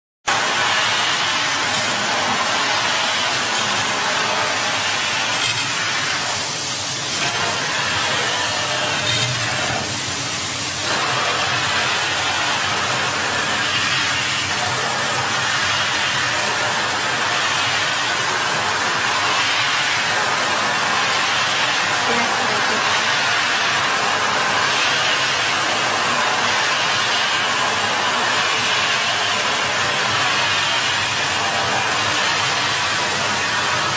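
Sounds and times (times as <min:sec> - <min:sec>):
water jets spraying: 0:00.3 - 0:33.9.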